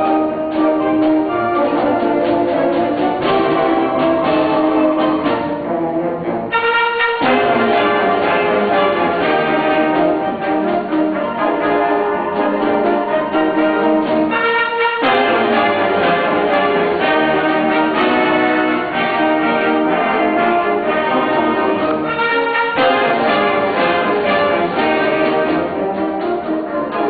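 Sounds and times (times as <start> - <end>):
concert band playing chords: 0.0 - 27.0.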